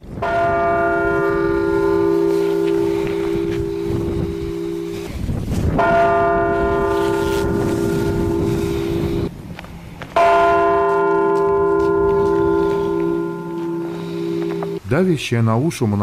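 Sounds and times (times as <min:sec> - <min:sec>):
church bell tolling: 0:00.2 - 0:05.2, 0:05.8 - 0:09.3, 0:10.2 - 0:14.8.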